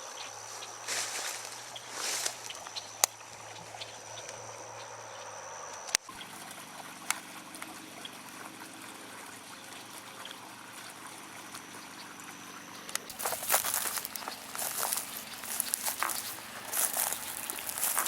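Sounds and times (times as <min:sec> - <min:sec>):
creek water trickling: 0:00.0 - 0:18.0.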